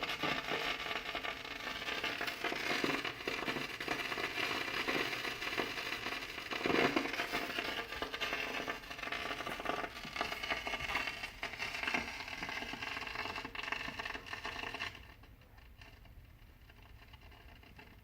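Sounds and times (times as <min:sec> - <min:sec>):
crackles and pops from speakers: 0:00.0 - 0:18.0
speaker hiss: 0:00.0 - 0:18.0.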